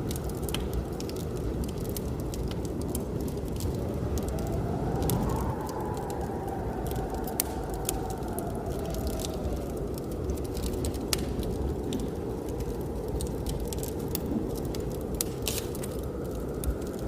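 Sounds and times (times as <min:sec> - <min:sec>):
blizzard wind rumbling: 0:00.0 - 0:17.0
wood fire crackling and popping: 0:00.0 - 0:17.0.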